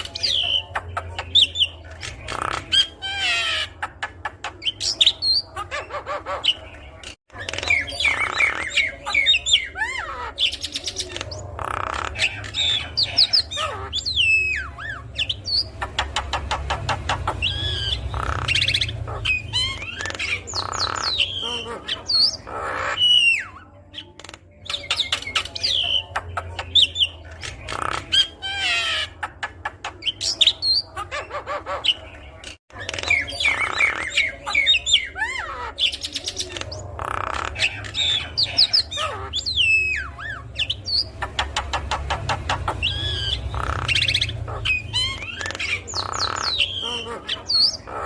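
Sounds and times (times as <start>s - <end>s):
bird singing: 0.0s - 48.0s.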